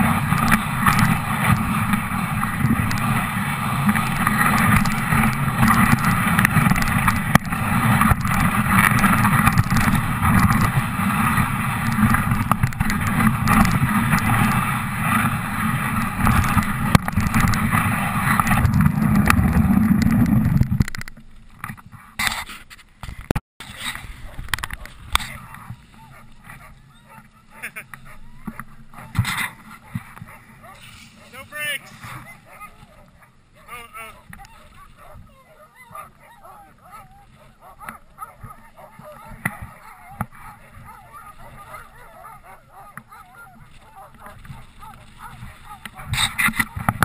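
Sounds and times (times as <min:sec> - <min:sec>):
sled runners rushing on snow: 0:00.0 - 0:20.8, 0:21.6 - 0:47.0
wind on microphone: 0:00.0 - 0:22.1, 0:23.1 - 0:47.0.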